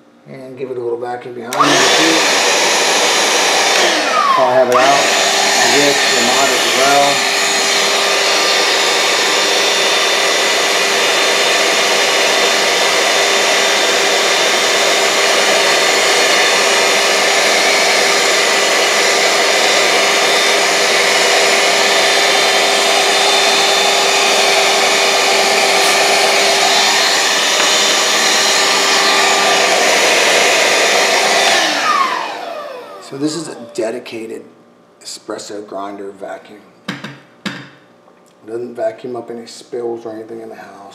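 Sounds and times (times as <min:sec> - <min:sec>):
handheld vacuum whining: 0:01.5 - 0:34.2.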